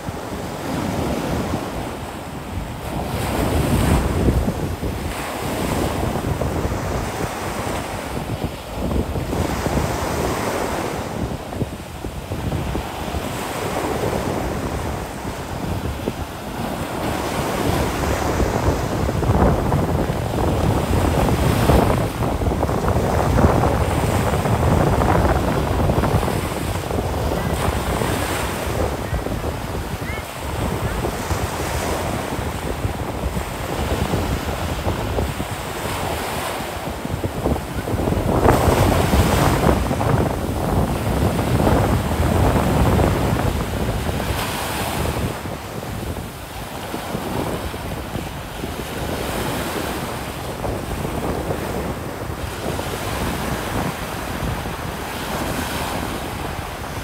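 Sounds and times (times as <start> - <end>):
surf breaking on sand: 0.0 - 57.0
wind rumbling on microphone: 0.0 - 57.0.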